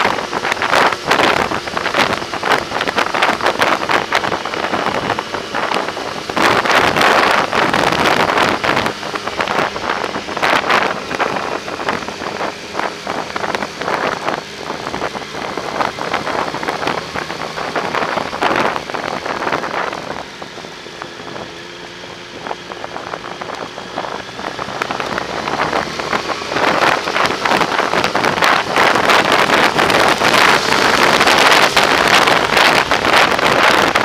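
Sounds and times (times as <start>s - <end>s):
motorcycle engine running: 0.0s - 34.0s
wind buffeting microphone: 0.0s - 34.0s.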